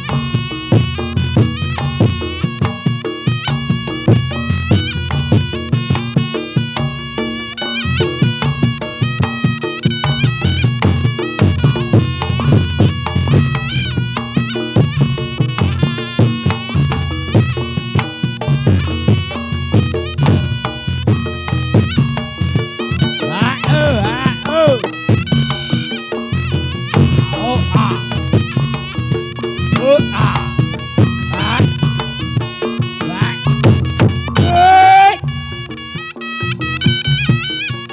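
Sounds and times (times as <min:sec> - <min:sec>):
drum beats: 0:00.0 - 0:37.9
reedy shawm melody: 0:00.0 - 0:37.9
struck percussion: 0:00.0 - 0:37.9.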